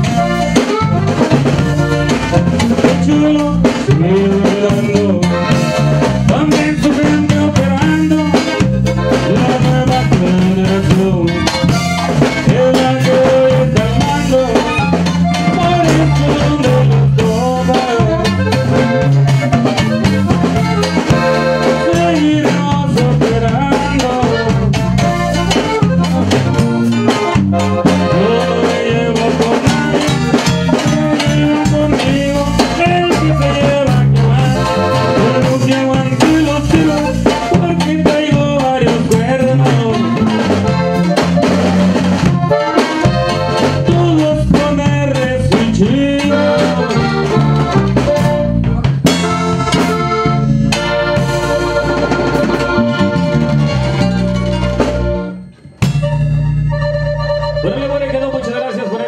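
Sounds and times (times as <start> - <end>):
accordion melody: 0.0 - 59.0
band with guitar bass and drums: 0.0 - 59.0.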